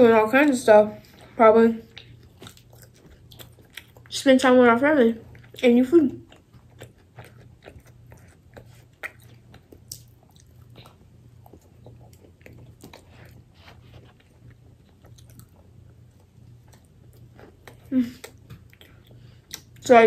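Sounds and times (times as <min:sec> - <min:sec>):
faint low hum: 0:00.0 - 0:20.0
biting and chewing: 0:01.1 - 0:04.2, 0:05.2 - 0:19.9.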